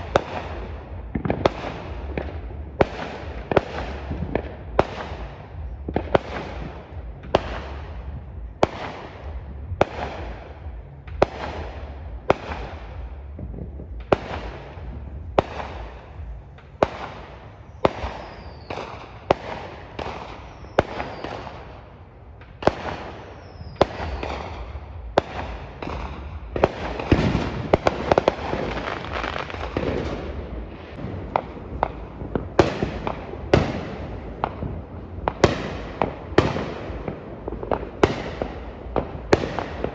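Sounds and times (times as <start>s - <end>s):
crackling firework bangs: 0.0s - 39.9s
fireworks exploding: 0.0s - 39.9s.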